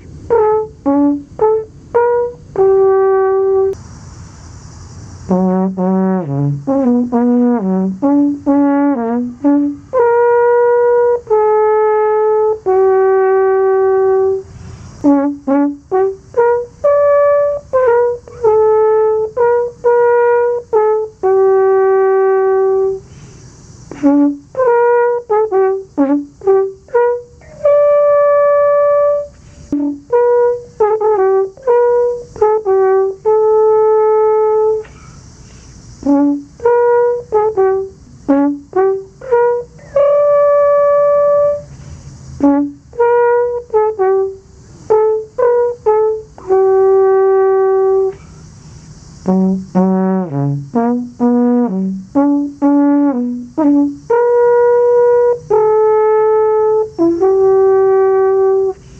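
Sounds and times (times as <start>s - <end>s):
alphorn playing: 0.0s - 3.8s, 5.3s - 23.1s, 23.9s - 35.0s, 36.0s - 41.8s, 42.4s - 48.2s, 49.2s - 58.9s.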